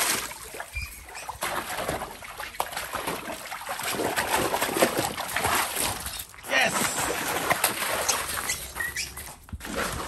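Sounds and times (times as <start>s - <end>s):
water splashing in a pool: 0.0s - 10.0s.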